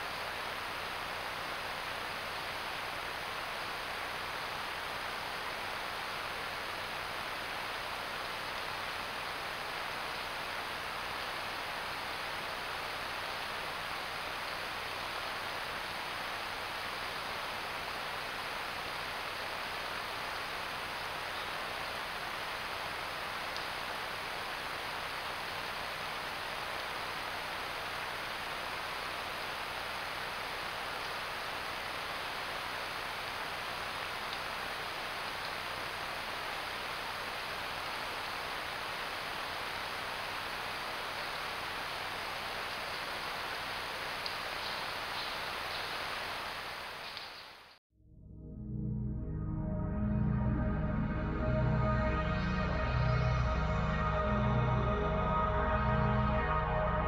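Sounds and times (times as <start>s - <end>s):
microphone hiss: 0.0s - 47.8s.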